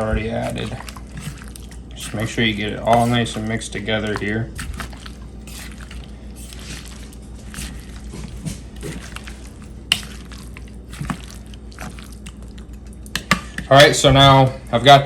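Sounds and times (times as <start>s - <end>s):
tongs stirring wet meat: 0.0s - 13.4s
low steady hum: 0.0s - 15.0s.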